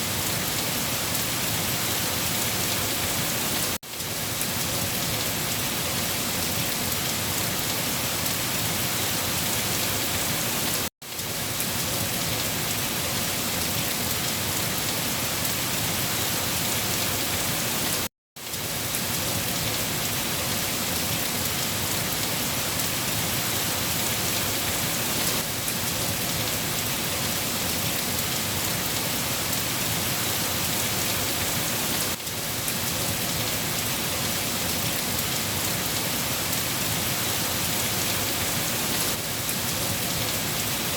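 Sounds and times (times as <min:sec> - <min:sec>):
dense rainfall: 0:00.0 - 0:40.9.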